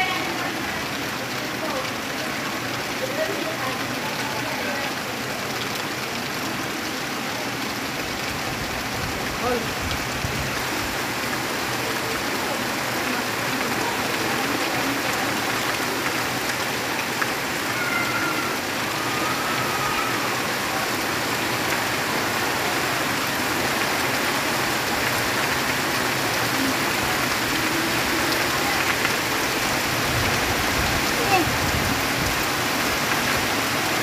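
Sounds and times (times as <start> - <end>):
heavy rain on leaves: 0.0 - 34.0.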